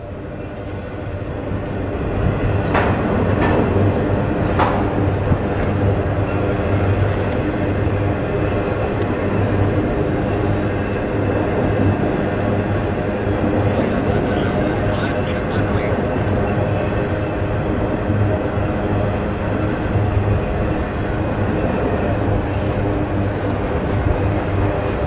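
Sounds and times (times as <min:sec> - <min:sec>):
freight train rumbling on bridge: 0:00.0 - 0:25.0.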